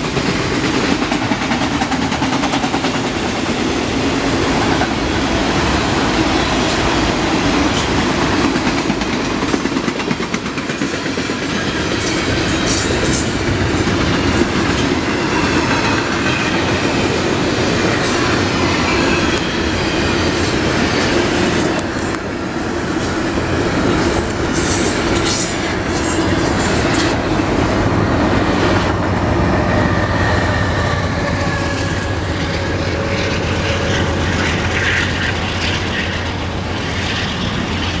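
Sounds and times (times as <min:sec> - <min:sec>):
train wheels clattering on rails: 0:00.0 - 0:38.0.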